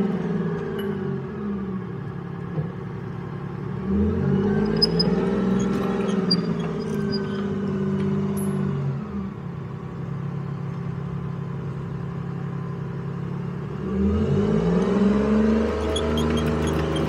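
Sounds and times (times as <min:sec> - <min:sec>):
tracked vehicle engine revving: 0:00.0 - 0:10.1, 0:13.0 - 0:17.0.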